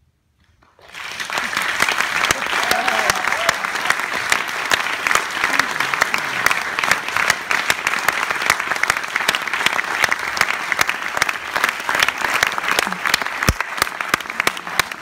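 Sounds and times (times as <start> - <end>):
audience applauding: 0.6 - 15.0.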